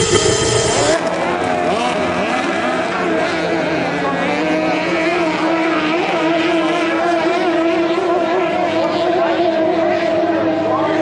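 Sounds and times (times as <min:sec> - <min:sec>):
powerboat engines whining: 0:00.0 - 0:11.0.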